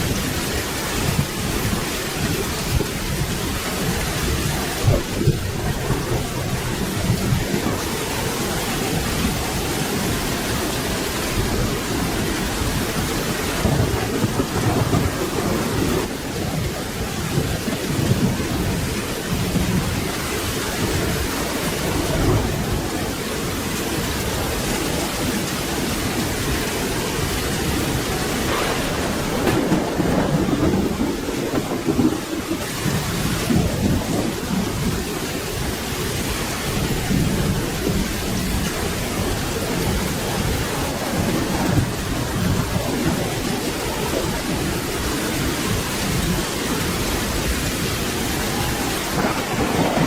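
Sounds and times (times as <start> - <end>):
steady rain falling: 0.0 - 50.0
thunder rumbling: 0.0 - 50.0.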